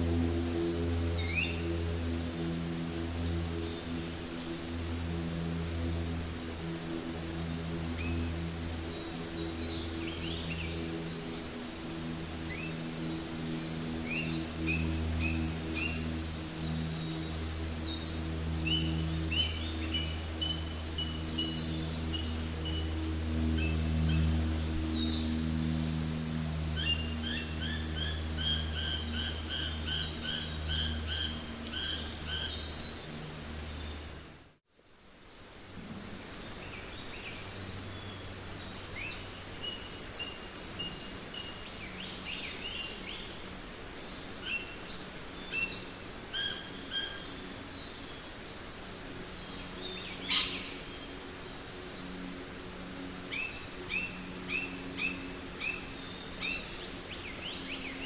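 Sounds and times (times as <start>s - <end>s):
birds singing and calling: 0.0s - 34.5s, 36.5s - 58.0s
low steady hum: 0.0s - 58.0s.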